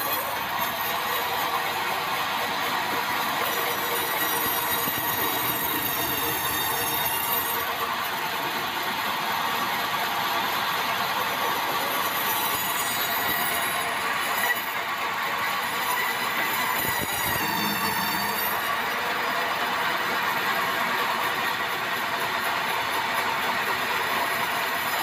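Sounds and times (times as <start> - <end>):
saw blade cutting log whining: 0.0 - 25.0.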